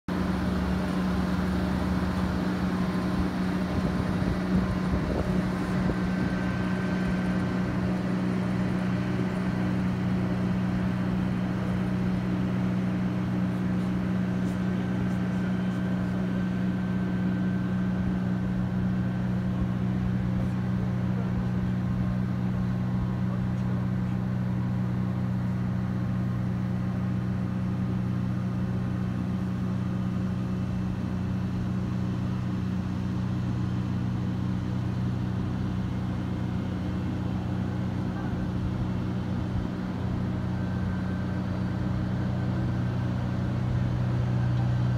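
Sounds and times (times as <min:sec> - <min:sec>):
low mechanical machinery hum: 0:00.1 - 0:44.9.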